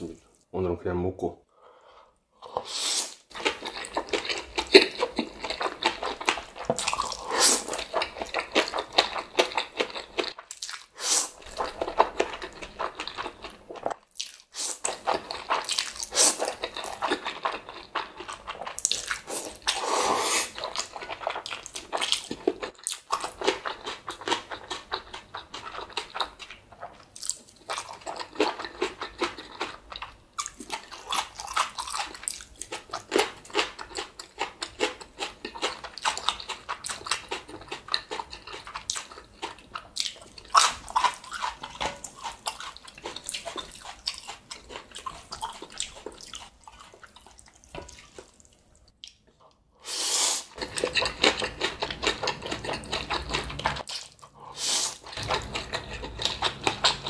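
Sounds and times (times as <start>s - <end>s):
wet chewing and smacking: 3.3s - 49.7s, 50.5s - 54.4s, 55.0s - 57.0s.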